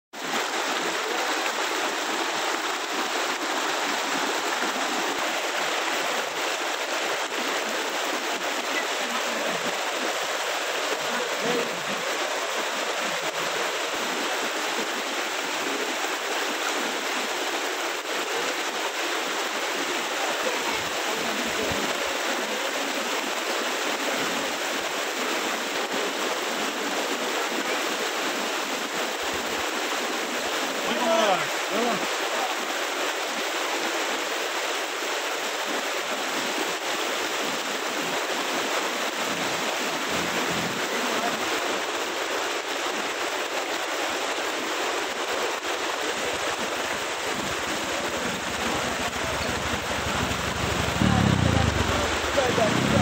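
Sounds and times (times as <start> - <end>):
floodwater rushing: 0.2 - 53.0.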